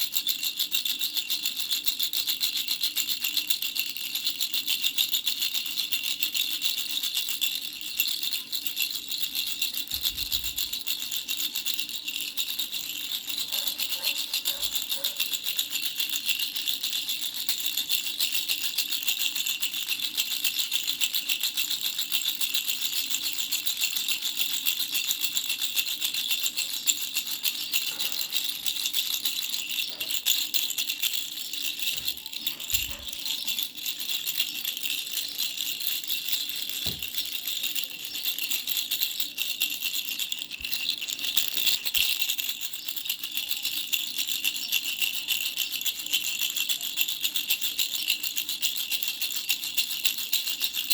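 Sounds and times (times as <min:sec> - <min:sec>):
baby rattle bells jingling: 0:00.0 - 0:50.9.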